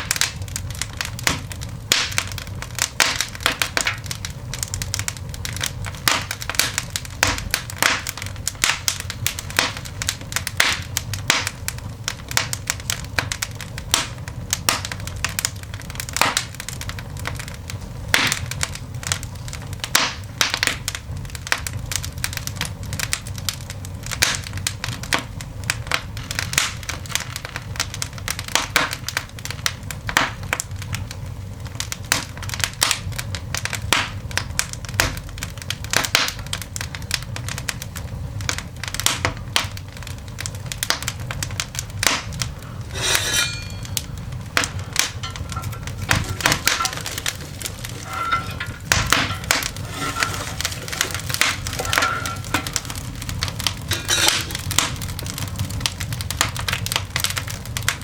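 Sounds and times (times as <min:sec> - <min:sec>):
coal fire crackling and popping: 0:00.0 - 0:58.0
low fire rumble: 0:00.0 - 0:58.0.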